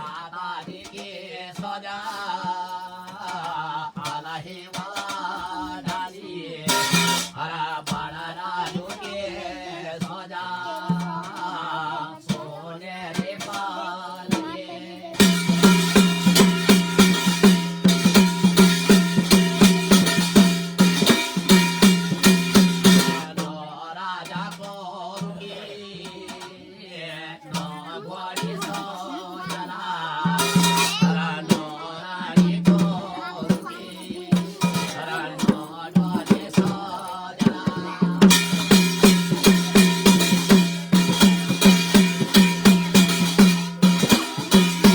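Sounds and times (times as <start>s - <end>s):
fast drum strokes: 0.0s - 44.9s.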